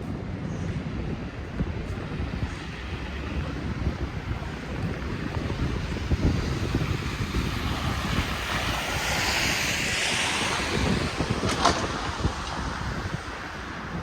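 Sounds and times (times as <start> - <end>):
tyres hissing on snowy street: 0.0 - 14.0
wind buffeting microphone: 0.0 - 14.0.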